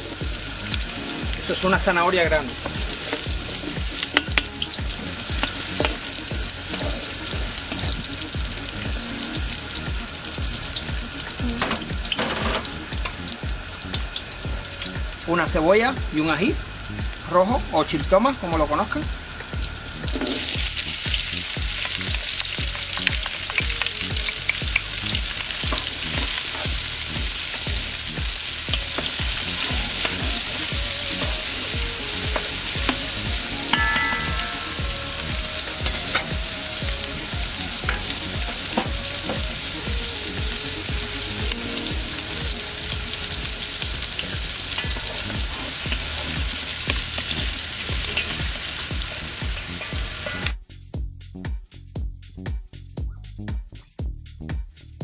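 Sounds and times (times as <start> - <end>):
vegetables sizzling in hot oil: 0.0 - 50.6.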